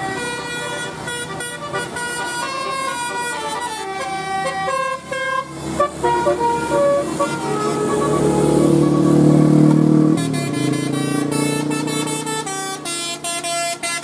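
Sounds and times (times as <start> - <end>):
multi-tone bus horn tune: 0.0 - 14.0.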